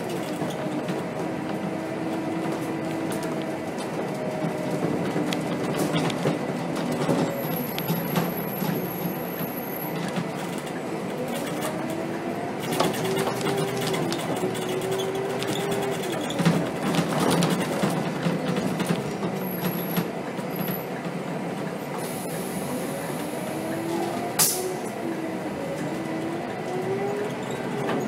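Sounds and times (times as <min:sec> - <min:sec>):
bus engine droning with whine: 0:00.0 - 0:28.0.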